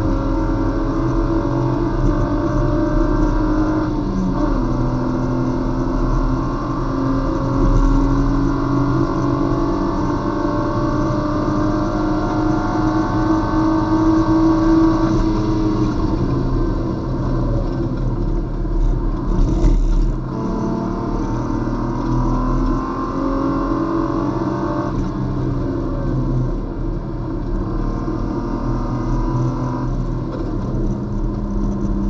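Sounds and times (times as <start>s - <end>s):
race car engine: 0.0s - 32.0s.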